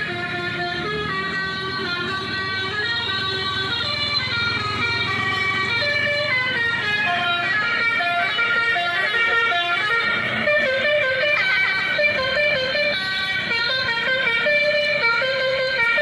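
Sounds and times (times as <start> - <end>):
bus horn melody from speaker: 0.0 - 16.0.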